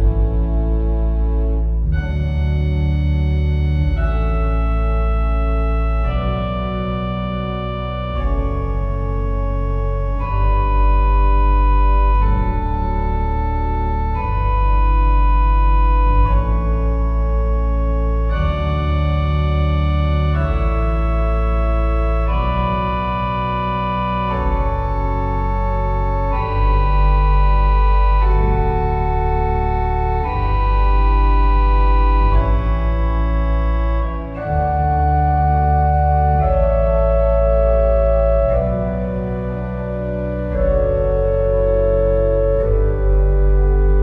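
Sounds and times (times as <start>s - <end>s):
church organ chords: 0.0s - 44.0s.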